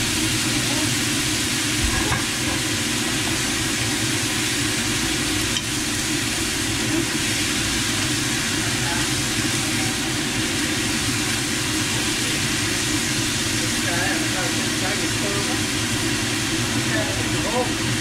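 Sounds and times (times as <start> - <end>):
food sizzling in pan: 0.0 - 18.0.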